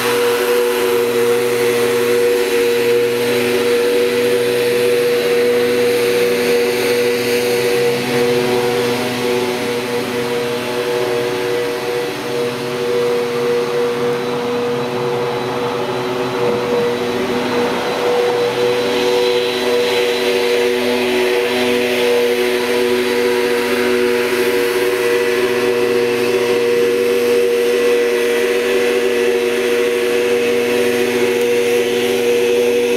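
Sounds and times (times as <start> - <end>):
air rushing from blower: 0.0 - 32.9
leaf blower engine droning: 0.0 - 32.9.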